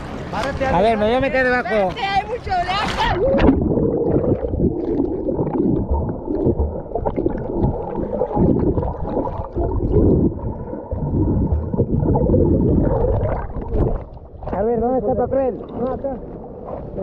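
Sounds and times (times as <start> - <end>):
muffled underwater surf churning: 0.0 - 17.0.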